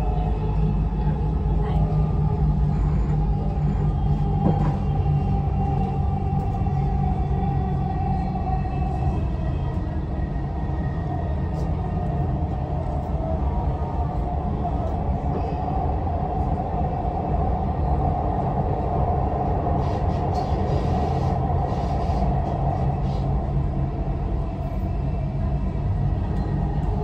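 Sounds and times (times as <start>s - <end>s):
train rumble: 0.0s - 27.0s
train whine: 0.0s - 27.0s.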